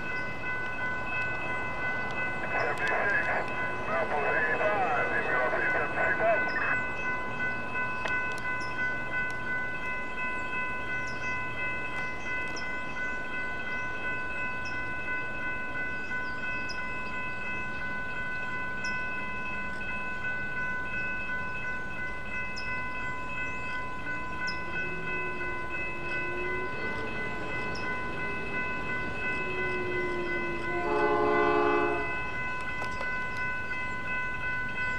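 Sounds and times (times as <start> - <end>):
railroad crossing bell ringing: 0.0 - 34.9.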